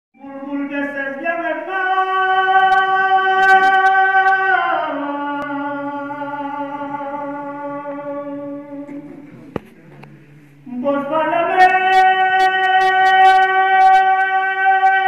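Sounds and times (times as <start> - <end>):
man singing long notes: 0.2 - 9.2, 10.6 - 15.0.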